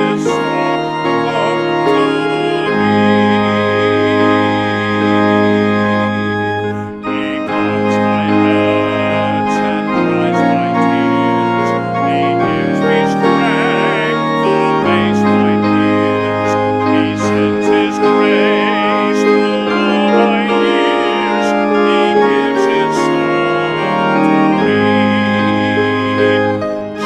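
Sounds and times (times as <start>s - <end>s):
church organ playing a hymn: 0.0s - 27.0s.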